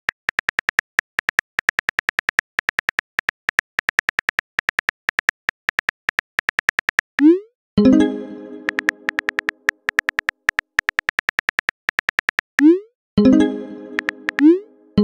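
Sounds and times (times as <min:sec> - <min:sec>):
phone keyboard typing clicks: 0:00.1 - 0:07.3, 0:08.5 - 0:12.8, 0:13.9 - 0:14.5.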